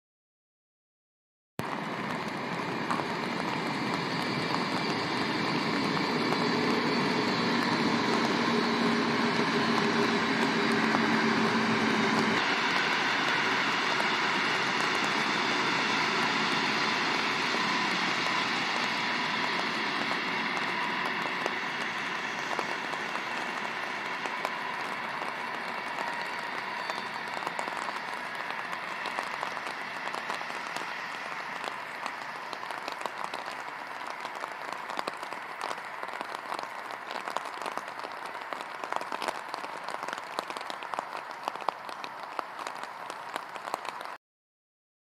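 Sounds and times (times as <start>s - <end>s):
faint steady whine: 1.6s - 44.0s
train wheels hissing on rail: 2.3s - 43.2s.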